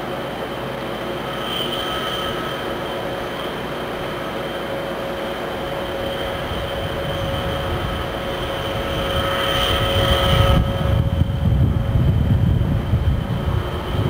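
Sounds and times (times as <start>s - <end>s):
diesel locomotive idling: 0.0s - 14.0s.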